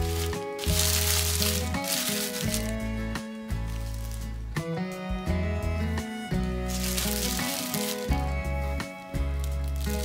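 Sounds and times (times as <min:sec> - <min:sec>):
instrumental music of sustained notes: 0:00.0 - 0:10.0.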